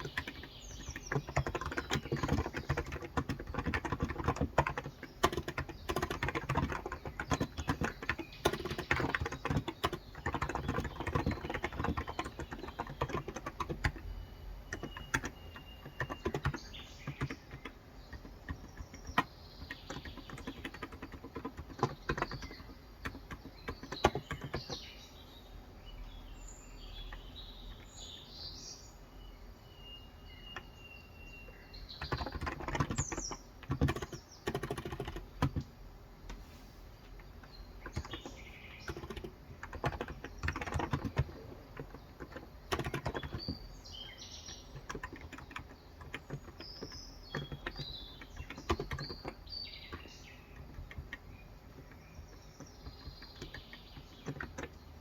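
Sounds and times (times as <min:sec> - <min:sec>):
keyboard typing: 0:00.0 - 0:24.8, 0:31.9 - 0:35.8, 0:37.2 - 0:55.0.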